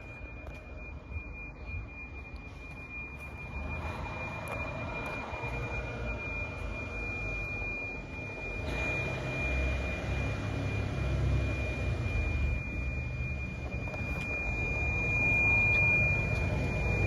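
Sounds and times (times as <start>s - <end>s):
fire alarm tone: 0.0s - 17.0s
vehicle engine idling: 0.0s - 17.0s.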